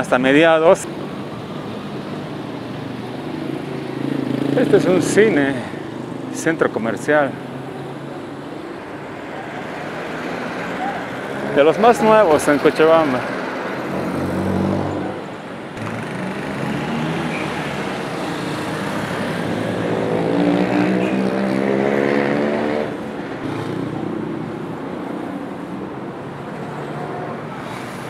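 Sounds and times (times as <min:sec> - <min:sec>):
traffic road noise: 0:00.0 - 0:28.0.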